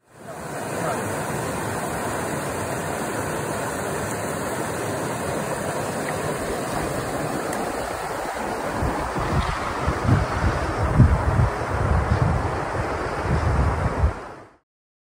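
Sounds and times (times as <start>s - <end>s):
water rushing over rocks: 0.0s - 14.5s.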